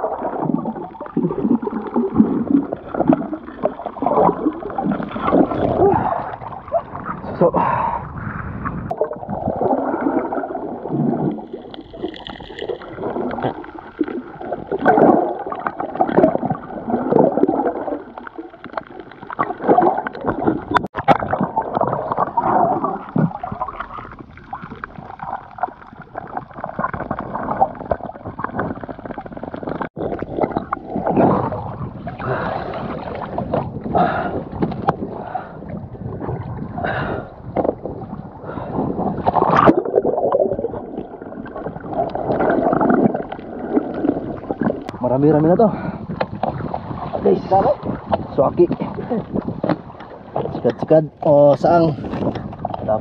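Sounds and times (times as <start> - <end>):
muffled underwater gurgling: 0.0 - 53.0.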